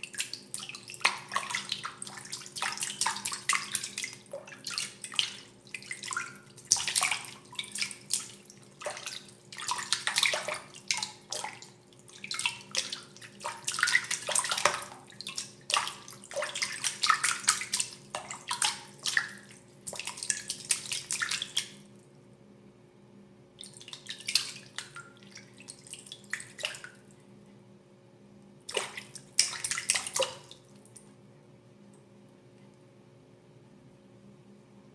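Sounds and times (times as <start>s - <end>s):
water splashing and sloshing: 0.0s - 22.1s, 23.6s - 27.1s, 28.7s - 31.2s
faint steady hum: 0.0s - 34.9s.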